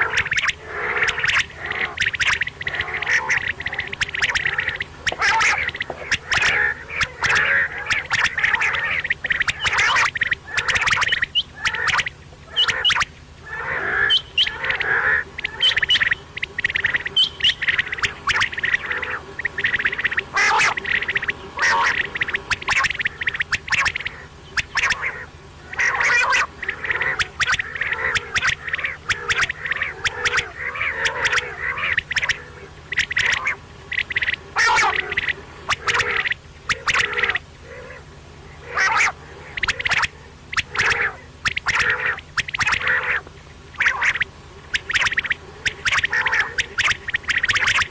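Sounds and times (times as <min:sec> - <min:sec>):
quail chattering calls: 0:00.0 - 0:47.9.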